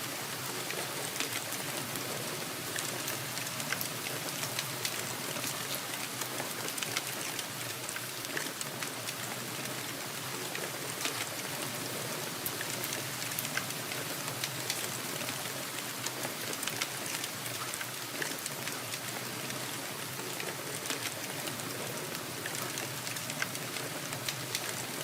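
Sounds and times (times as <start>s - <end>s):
steady rain hiss: 0.0s - 25.0s
raindrops ticking on surface: 0.1s - 25.0s.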